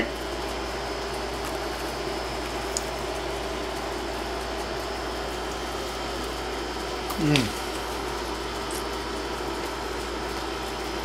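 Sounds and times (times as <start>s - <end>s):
indoor background hum and hiss: 0.0s - 11.0s.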